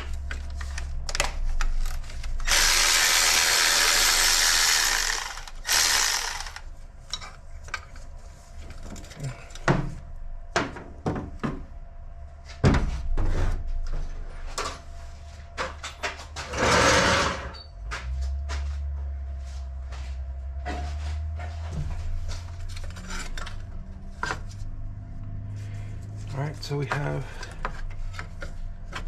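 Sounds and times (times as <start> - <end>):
steady low hum: 0.0 - 16.6, 17.3 - 29.0.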